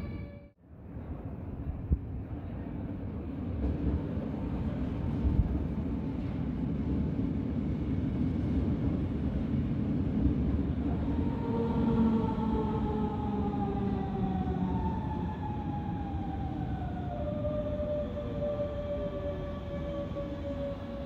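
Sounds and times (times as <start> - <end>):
train wheels rumbling on rails: 0.8 - 21.0.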